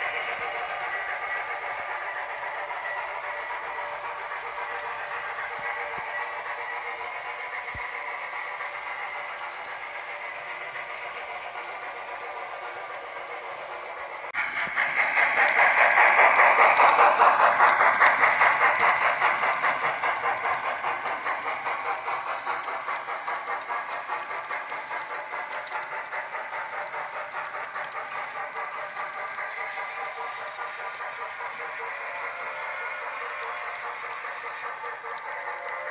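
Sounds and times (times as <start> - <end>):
model steam locomotive hiss: 0.0 - 35.9
rhythmic steam chuffs: 0.0 - 35.9.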